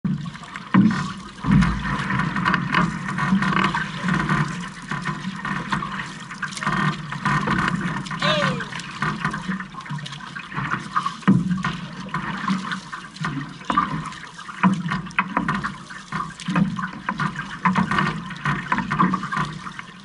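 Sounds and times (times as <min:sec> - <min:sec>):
water sloshing along hull: 0:00.0 - 0:20.0
paddles splashing in water: 0:00.1 - 0:20.0.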